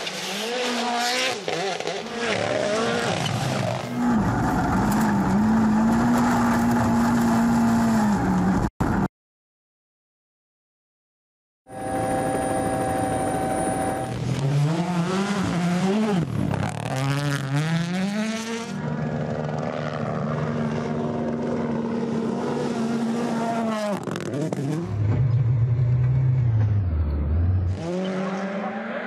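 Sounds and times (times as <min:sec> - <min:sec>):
rally car engines revving: 0:00.0 - 0:08.7, 0:13.2 - 0:29.0.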